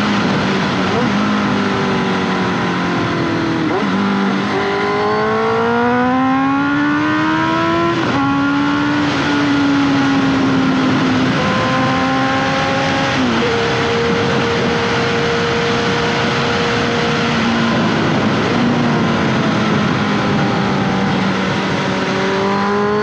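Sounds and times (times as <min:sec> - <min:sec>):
heavy wind noise: 0:00.0 - 0:23.0
motorcycle engine accelerating: 0:00.0 - 0:23.0.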